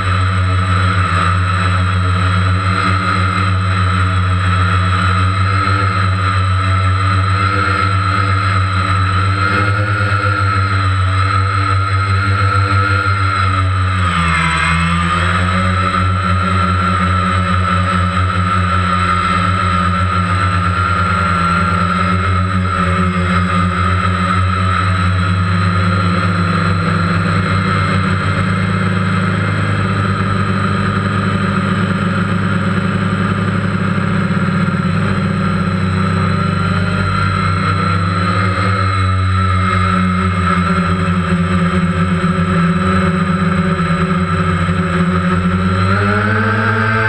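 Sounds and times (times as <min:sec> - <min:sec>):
quadcopter motors buzzing: 0:00.0 - 0:47.0.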